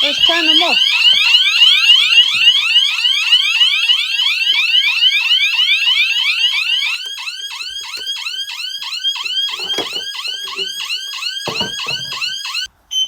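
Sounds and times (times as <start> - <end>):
alarm sirens sweeping: 0.0 - 12.7.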